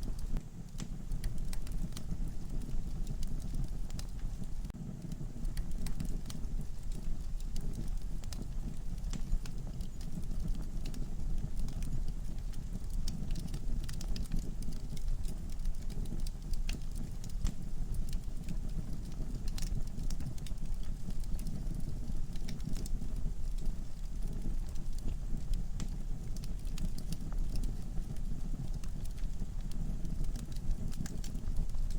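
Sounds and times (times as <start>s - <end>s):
log fire crackling and popping: 0.0s - 31.9s
low rumble of flame: 0.0s - 31.9s.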